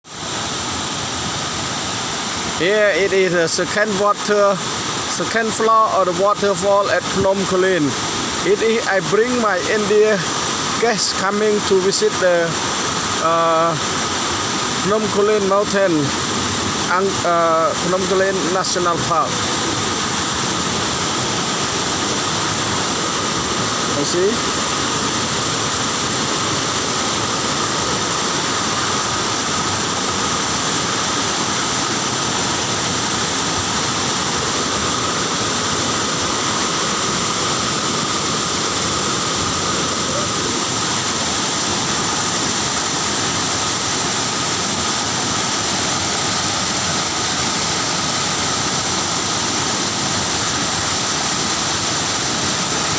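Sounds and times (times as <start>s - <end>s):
waterfall pouring: 0.1s - 52.9s.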